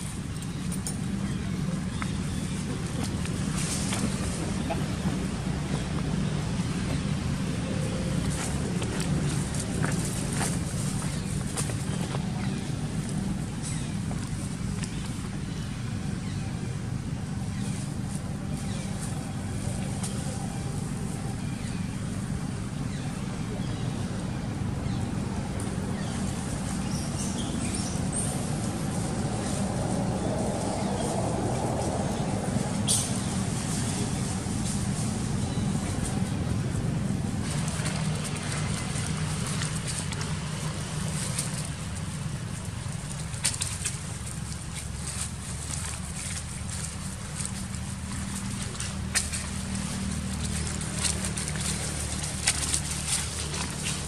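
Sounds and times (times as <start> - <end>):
dry leaves crackling and rustling: 0.0 - 16.2, 25.5 - 54.0
low engine hum: 0.0 - 54.0
steady low rumble: 0.0 - 54.0.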